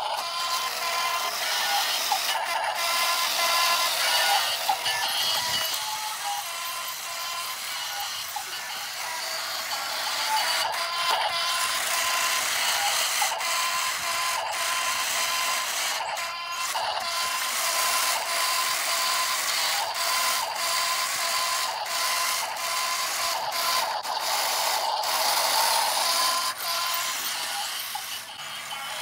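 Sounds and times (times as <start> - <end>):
toy truck motor whirring: 0.0 - 29.0.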